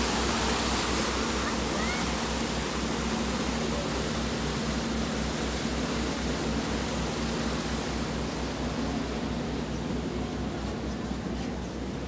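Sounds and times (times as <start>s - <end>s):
boat engine throb: 0.0s - 12.0s
wind and water rushing: 0.0s - 12.0s.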